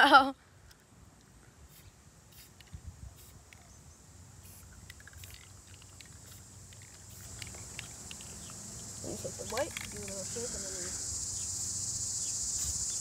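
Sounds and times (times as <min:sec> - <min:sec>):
insect chirring: 0:01.6 - 0:13.0
spray can hissing: 0:01.7 - 0:03.6, 0:04.4 - 0:13.0.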